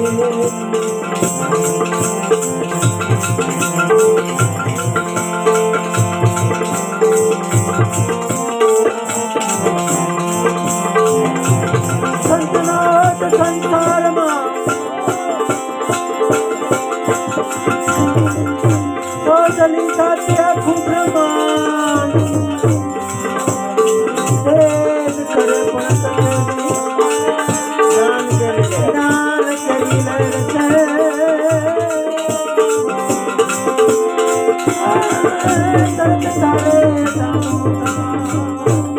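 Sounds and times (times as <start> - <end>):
steady drum beat: 0.0 - 38.9.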